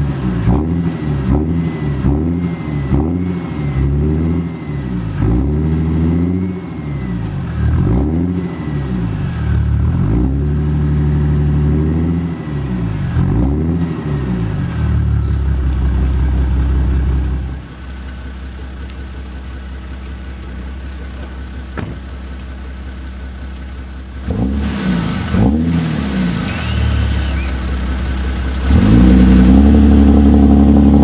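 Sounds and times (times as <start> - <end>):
diesel engine revving: 0.0 - 31.0.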